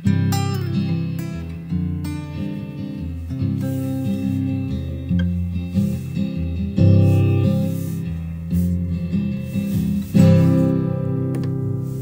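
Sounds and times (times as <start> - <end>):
acoustic guitar playing chords: 0.0 - 12.0.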